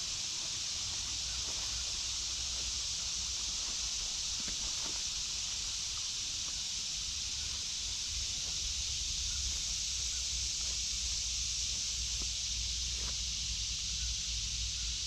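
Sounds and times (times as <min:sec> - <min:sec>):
cicada chorus drone: 0:00.0 - 0:15.0.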